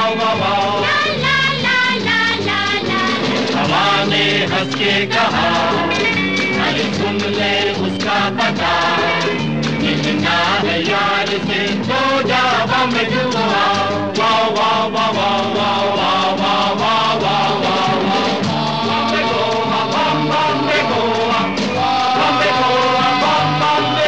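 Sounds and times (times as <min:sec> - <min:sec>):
film song with steady beat: 0:00.0 - 0:24.0.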